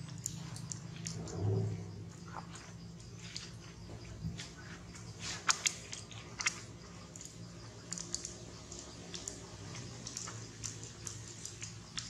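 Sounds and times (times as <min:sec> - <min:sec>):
low steady hum: 0:00.0 - 0:12.0
monkeys making wet clicking sounds: 0:00.0 - 0:12.0.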